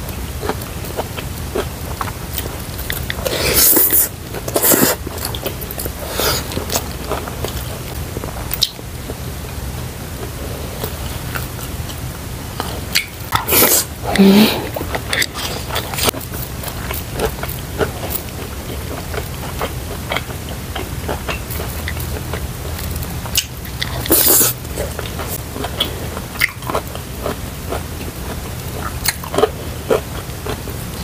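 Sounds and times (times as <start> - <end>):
person chewing food: 0.0 - 9.6, 10.2 - 31.0.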